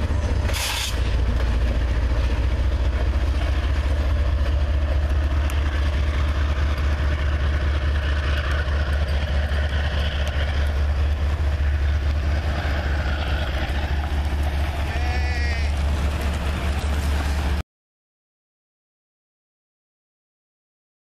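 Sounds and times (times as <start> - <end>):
diesel locomotive engine rumbling: 0.0 - 17.6.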